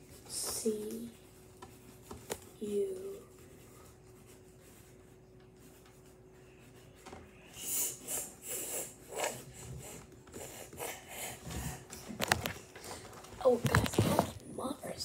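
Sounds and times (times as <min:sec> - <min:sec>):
writing on paper: 0:00.1 - 0:12.4.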